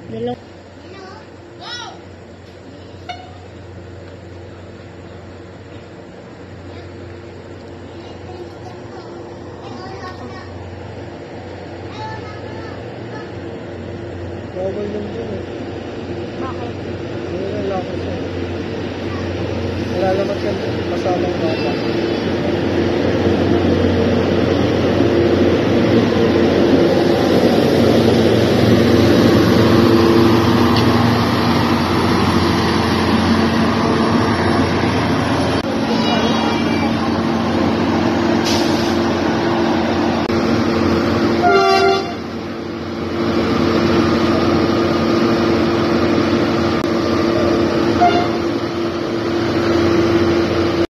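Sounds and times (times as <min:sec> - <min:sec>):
diesel locomotive engine passing: 0:00.0 - 0:50.9.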